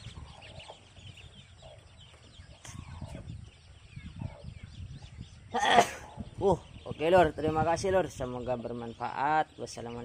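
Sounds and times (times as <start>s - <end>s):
ducklings peeping: 0.0s - 10.0s.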